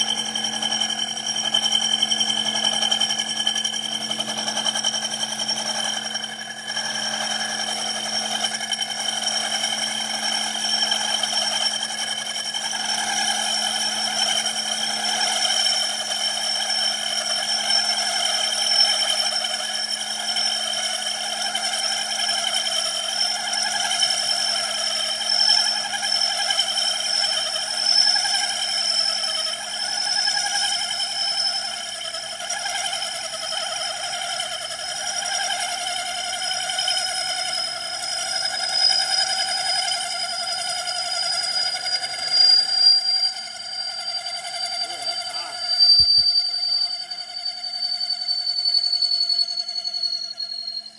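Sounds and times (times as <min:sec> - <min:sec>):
lathe running hum: 0:00.0 - 0:46.2
high-pitched cutting squeal: 0:00.0 - 0:50.9.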